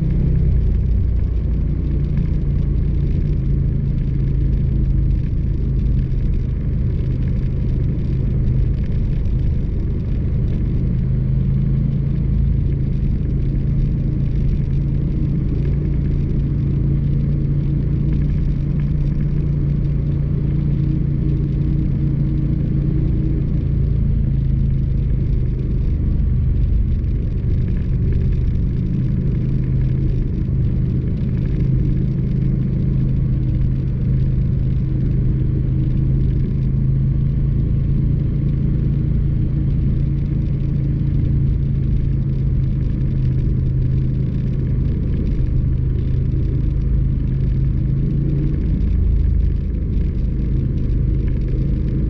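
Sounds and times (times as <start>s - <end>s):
motorcycle engine cruising: 0.0s - 52.0s
wind and road noise: 0.0s - 52.0s.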